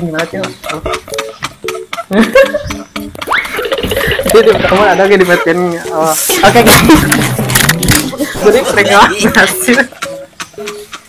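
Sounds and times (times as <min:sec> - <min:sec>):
person laughing: 0:01.9 - 0:11.0.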